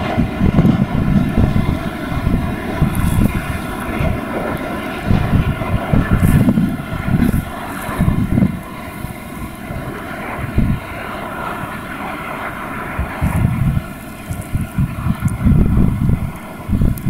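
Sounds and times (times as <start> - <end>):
diesel locomotive engines droning: 0.0 - 17.0
train rolling rumble: 0.0 - 17.0.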